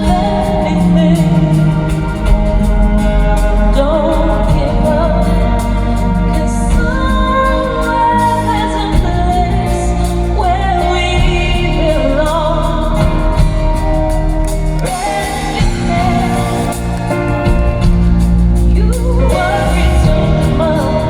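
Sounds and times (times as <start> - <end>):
live band playing: 0.0 - 21.0.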